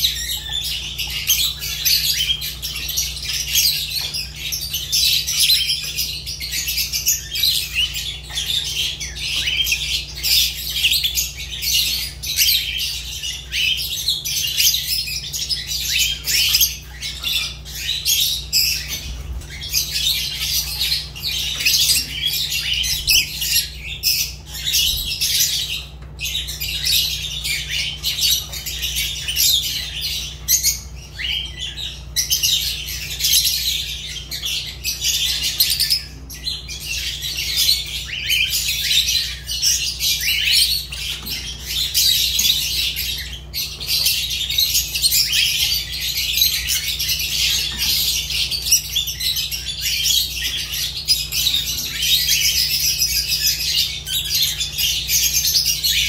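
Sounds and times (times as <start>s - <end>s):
lovebirds chattering: 0.0s - 56.0s
steady low hum: 0.0s - 56.0s.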